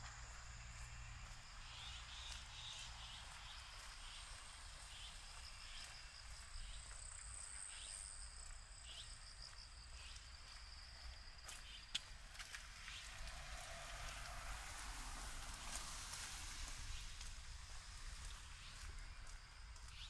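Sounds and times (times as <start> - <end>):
insects buzzing and chirping: 0.0 - 20.0.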